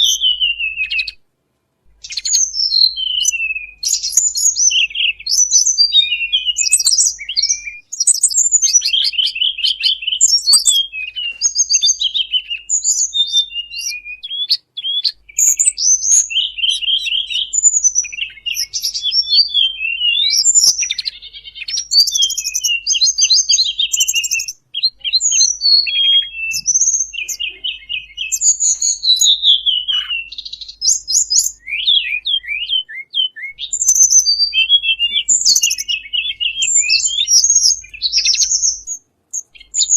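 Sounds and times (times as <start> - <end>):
bird chirps trills and whistles: 0.0 - 1.2, 1.9 - 39.9.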